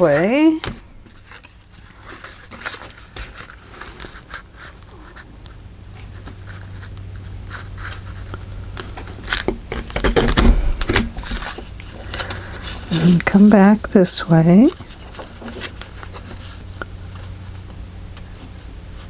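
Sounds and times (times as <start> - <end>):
paper rustling and creasing: 0.0 - 14.0, 14.6 - 17.7.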